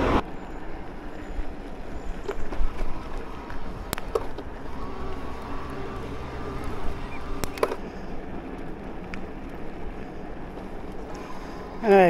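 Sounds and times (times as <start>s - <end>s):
bike tyre noise: 0.0s - 12.0s.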